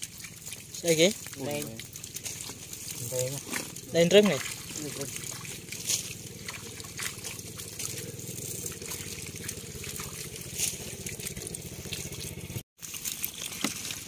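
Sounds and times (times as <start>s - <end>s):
steady low hum: 0.0s - 12.6s
shallow water trickling and sloshing: 0.0s - 14.0s
sharp splashes: 0.0s - 14.0s.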